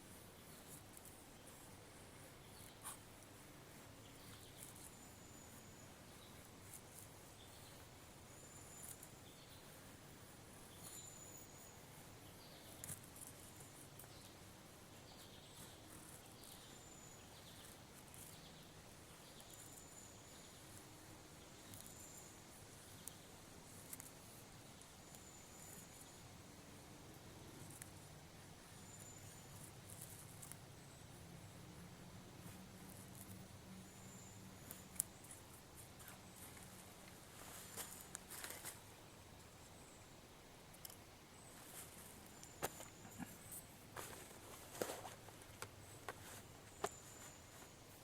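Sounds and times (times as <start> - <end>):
small birds calling: 0.0 - 48.0.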